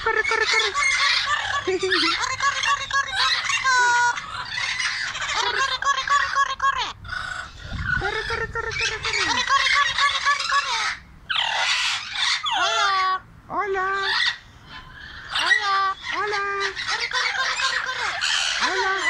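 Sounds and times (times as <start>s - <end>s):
parrots squawking and chattering: 0.0s - 19.0s.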